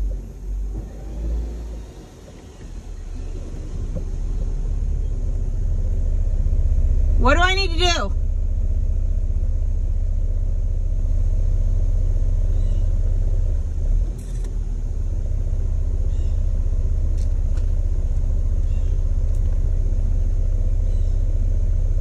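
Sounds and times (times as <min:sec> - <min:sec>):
engine low rumble inside cab: 0:00.0 - 0:22.0.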